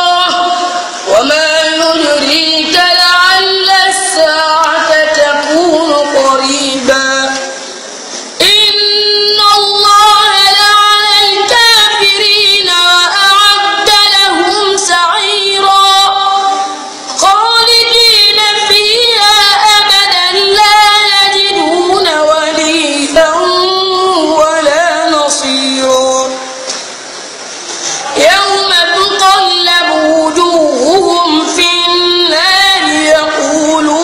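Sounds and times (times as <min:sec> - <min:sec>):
boy reciting melodically: 0:00.0 - 0:07.7, 0:08.4 - 0:26.8, 0:27.8 - 0:34.0.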